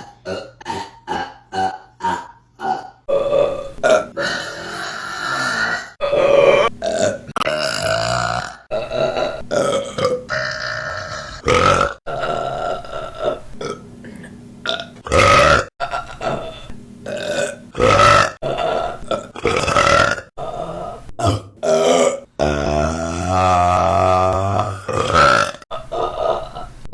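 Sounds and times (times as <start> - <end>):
woman burping: 0.0 - 26.9.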